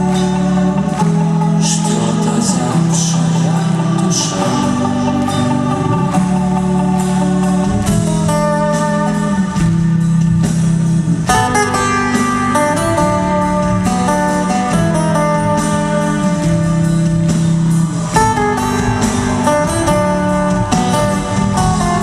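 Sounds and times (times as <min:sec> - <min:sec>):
lead guitar melody: 0:00.0 - 0:22.0
steady bass: 0:00.0 - 0:22.0.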